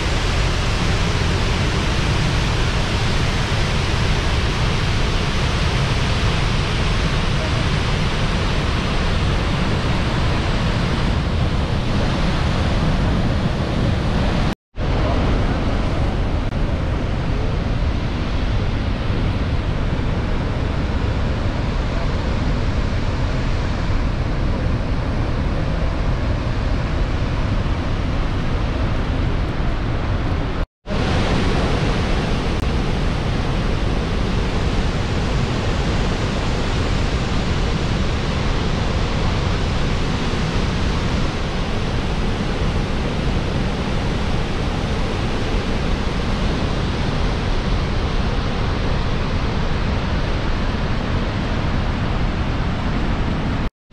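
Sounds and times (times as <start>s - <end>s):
waterfall rushing: 0.0s - 53.6s.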